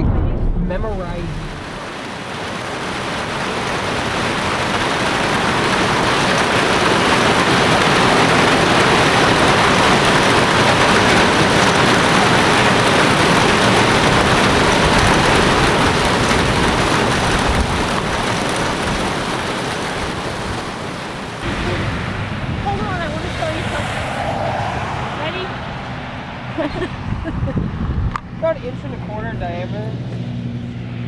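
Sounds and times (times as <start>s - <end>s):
heavy rain in strong wind: 0.8s - 28.5s.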